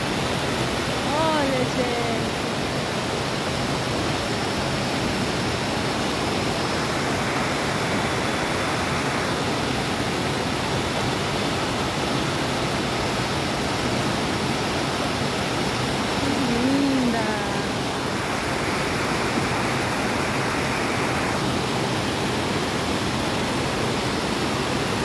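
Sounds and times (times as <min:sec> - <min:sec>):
waterfall and rapids roaring: 0:00.0 - 0:25.0.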